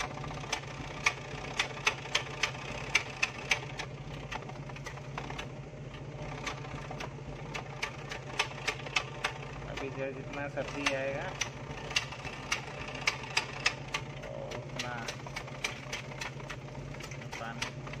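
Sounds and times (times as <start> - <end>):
car engine idling: 0.0 - 18.0
exhaust ticking: 0.0 - 18.0.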